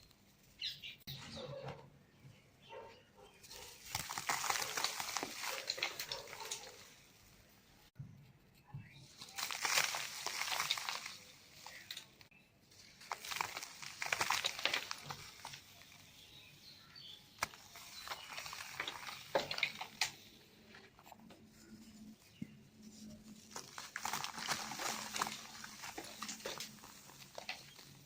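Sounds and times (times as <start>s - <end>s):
cement crumbling gritty crackle: 3.5s - 7.9s, 9.0s - 28.0s.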